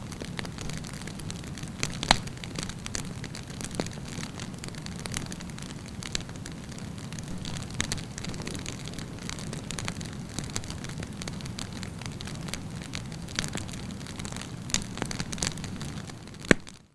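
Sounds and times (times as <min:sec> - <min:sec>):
burning wood crackling and popping: 0:00.0 - 0:16.9
low rush of flames: 0:00.0 - 0:16.9.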